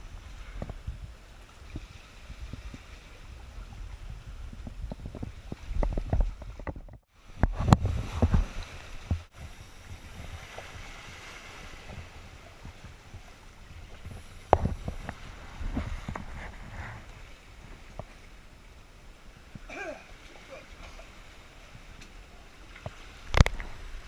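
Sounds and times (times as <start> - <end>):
wind buffeting microphone: 0.0 - 20.4
water lapping in rock pool: 0.0 - 24.0.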